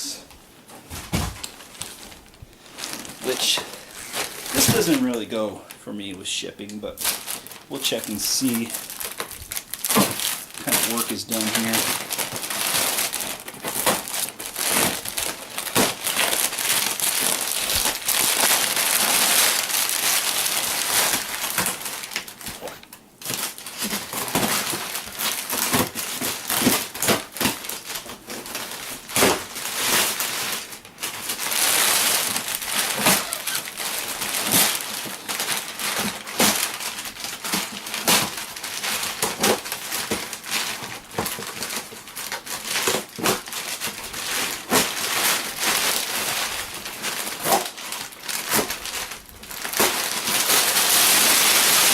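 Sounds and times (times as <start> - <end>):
packing material crinkling: 0.0 - 51.9.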